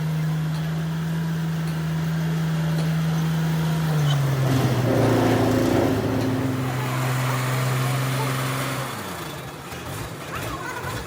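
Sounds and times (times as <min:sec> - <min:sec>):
road roller diesel engine running: 0:00.0 - 0:11.0.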